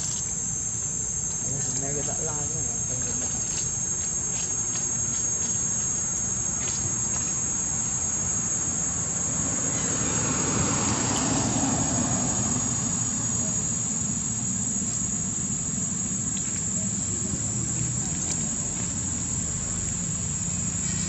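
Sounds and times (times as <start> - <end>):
insect chorus drone: 0.0 - 21.0
approaching engine: 1.4 - 21.0.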